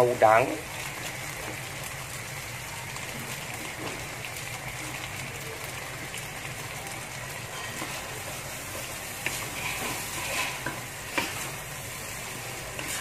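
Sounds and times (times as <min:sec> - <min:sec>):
prawns sizzling in a wok: 0:00.0 - 0:13.0.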